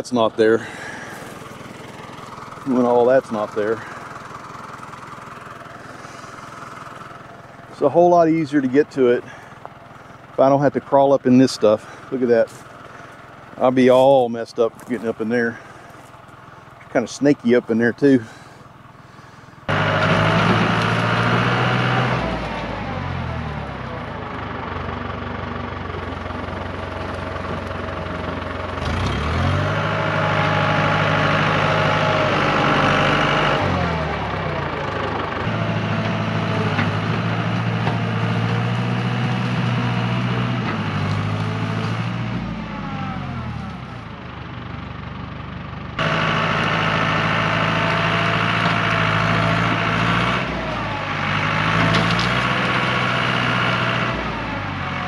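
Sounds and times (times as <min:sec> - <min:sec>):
tractor engine labouring: 0:00.0 - 0:55.0.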